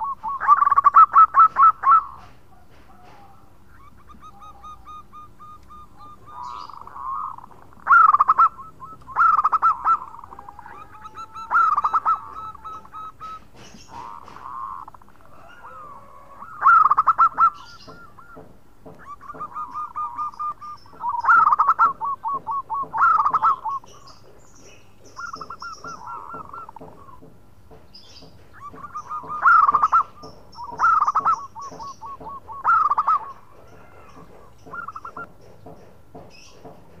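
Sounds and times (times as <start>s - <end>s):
dove cooing: 0.0s - 27.3s, 28.1s - 35.3s
high bird chirps: 3.1s - 27.2s, 27.9s - 35.3s.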